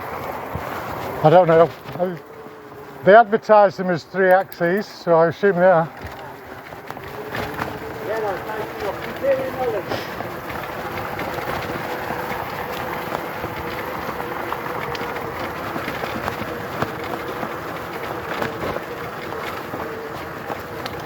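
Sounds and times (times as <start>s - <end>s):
tyres rolling: 0.0s - 21.0s
small ticks: 0.1s - 21.0s.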